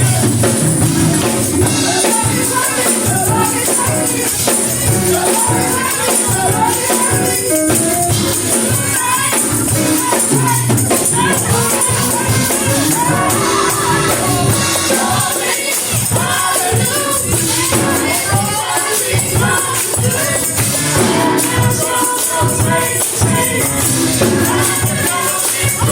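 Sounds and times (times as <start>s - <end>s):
band playing gospel music: 0.0s - 25.9s
choir singing: 0.0s - 25.9s
tambourine shaking: 0.0s - 25.9s.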